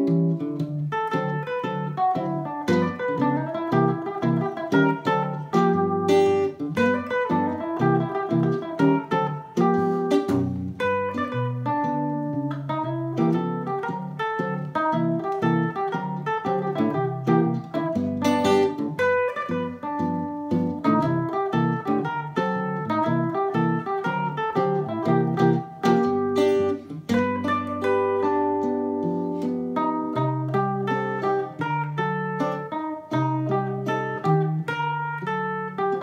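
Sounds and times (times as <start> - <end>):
electric guitar picked chords: 0.0 - 36.0
electric mandolin plucked melody: 0.0 - 36.0.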